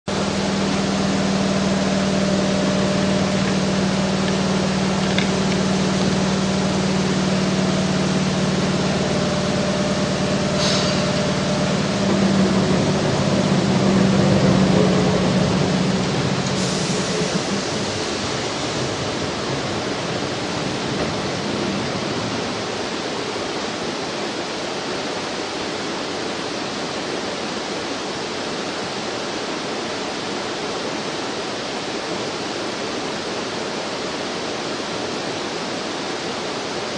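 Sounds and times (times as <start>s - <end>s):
faint train hum: 0.1s - 36.9s
river water flowing: 0.1s - 36.9s.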